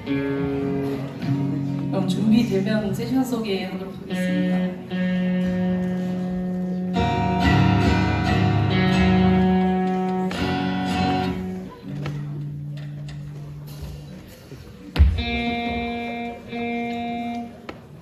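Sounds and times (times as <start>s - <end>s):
guitar chords strummed: 0.0s - 2.5s, 4.0s - 14.1s, 14.9s - 17.8s.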